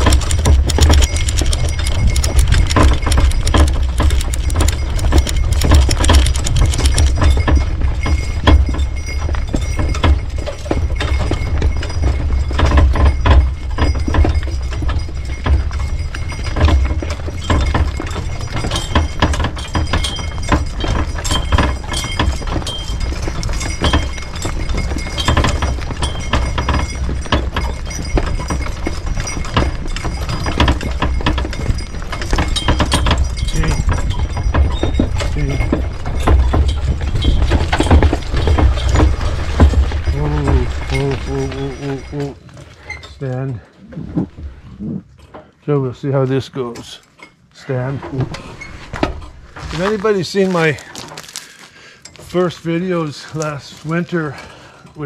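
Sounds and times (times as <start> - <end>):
hooves clip-clopping: 0.0 - 55.0
knocks and rattles: 0.0 - 55.0.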